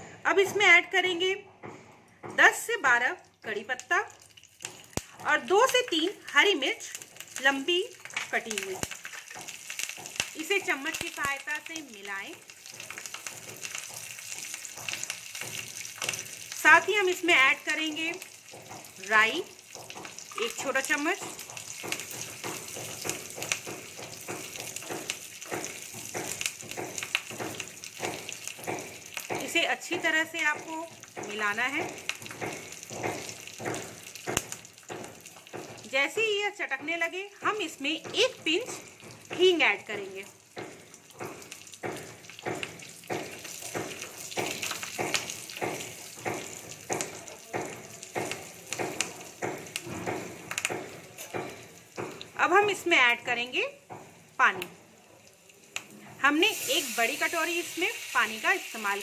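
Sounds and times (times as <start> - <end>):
hot oil sizzling: 2.3 - 59.0
spoon stirring and scraping pan: 4.3 - 52.8.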